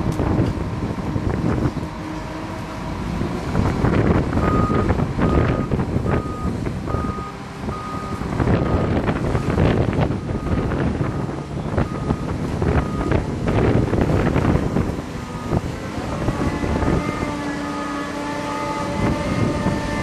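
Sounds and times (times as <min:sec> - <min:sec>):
heavy engine running under load: 0:00.0 - 0:20.0.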